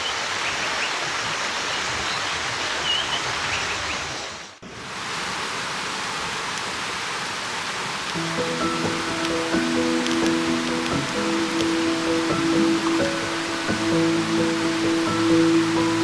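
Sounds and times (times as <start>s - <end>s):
rushing outdoor ambience: 0.0s - 16.0s.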